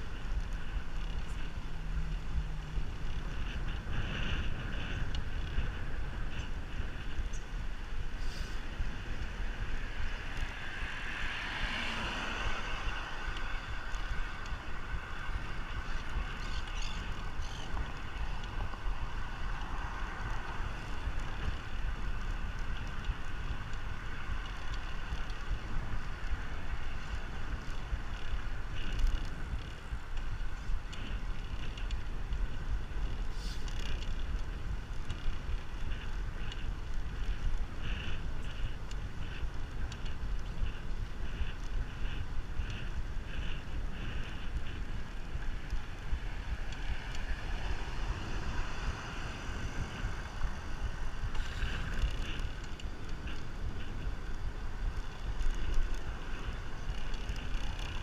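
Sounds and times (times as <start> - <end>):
bike road and riding noise: 0.0 - 58.0
wind rumbling on microphone: 0.0 - 58.0.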